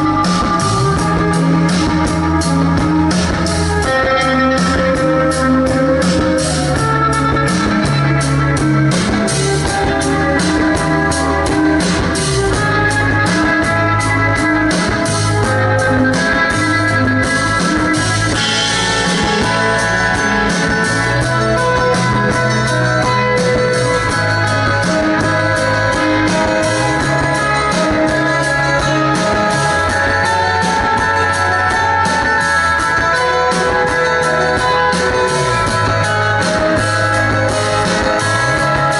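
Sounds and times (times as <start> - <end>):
bass line: 0.0 - 38.9
drum beat: 0.0 - 38.9
keyboard chords: 0.0 - 38.9.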